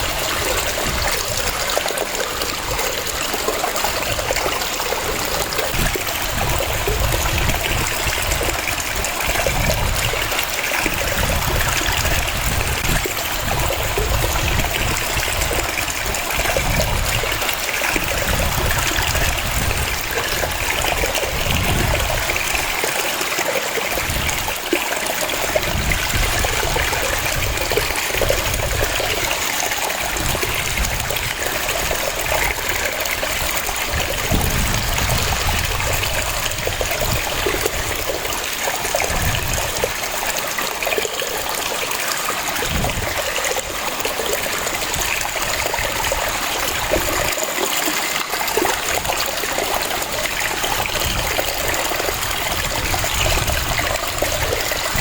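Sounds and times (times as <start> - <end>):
waterfall cascading: 0.0 - 55.0.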